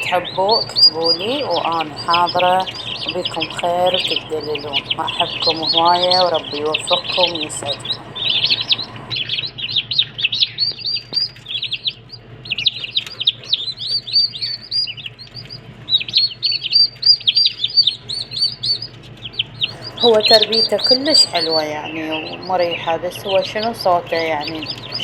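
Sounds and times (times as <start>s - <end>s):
turkey poults peeping: 0.0s - 25.0s.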